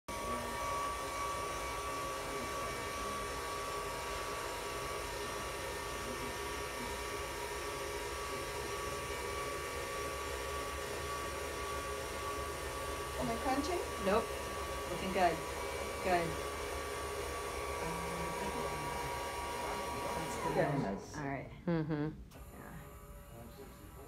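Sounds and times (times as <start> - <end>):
electric motor hum with whine: 0.1 - 24.0.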